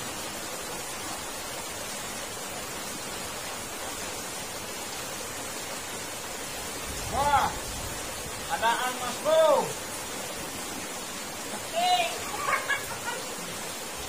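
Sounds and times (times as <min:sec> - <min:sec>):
water rushing in a culvert: 0:00.0 - 0:14.0.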